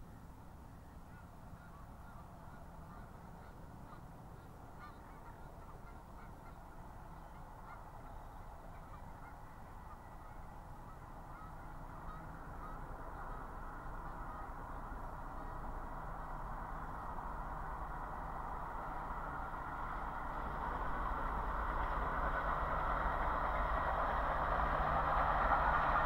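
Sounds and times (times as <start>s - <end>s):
faint low rumble: 0.0s - 26.0s
geese honking: 1.1s - 26.0s.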